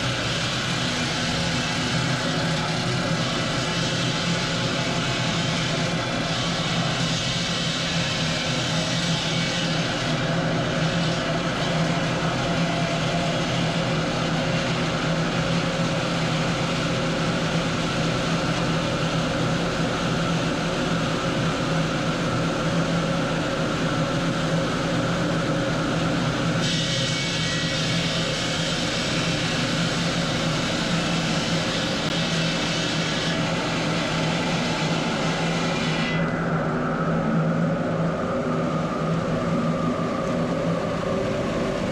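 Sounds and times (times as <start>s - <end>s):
stone-cutting machinery droning: 0.0s - 41.9s.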